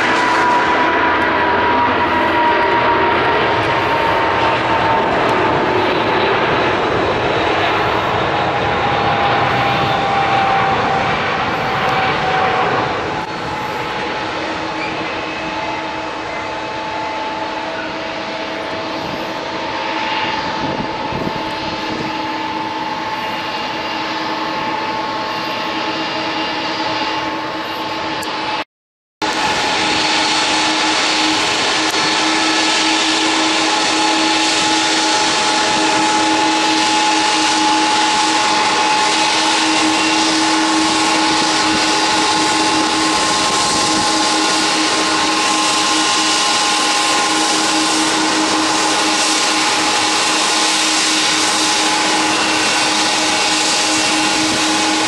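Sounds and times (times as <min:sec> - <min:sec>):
airliner turbines running: 0:00.0 - 0:28.6, 0:29.2 - 0:55.0.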